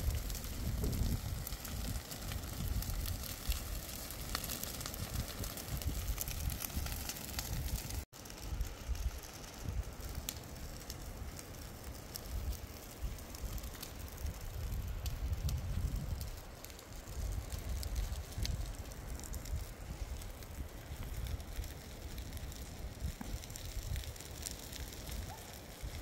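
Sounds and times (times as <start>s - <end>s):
wind rumble on microphone: 0.0s - 10.3s, 12.2s - 26.0s
dry grass fire crackling: 0.0s - 26.0s.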